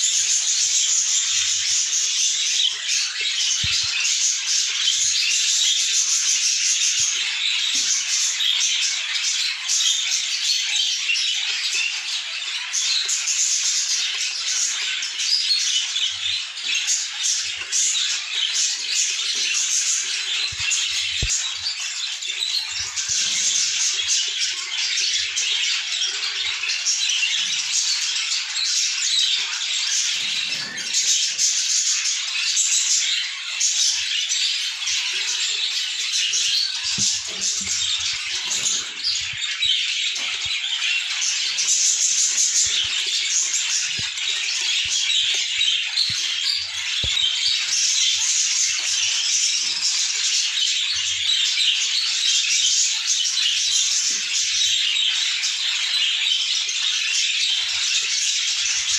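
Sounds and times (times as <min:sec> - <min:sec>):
budgerigars chattering and chirping: 0:00.0 - 0:58.9.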